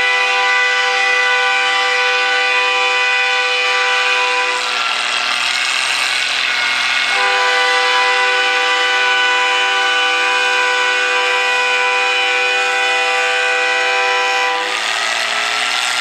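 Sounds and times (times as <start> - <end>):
tractor engine droning: 0.0 - 11.7, 12.4 - 16.0.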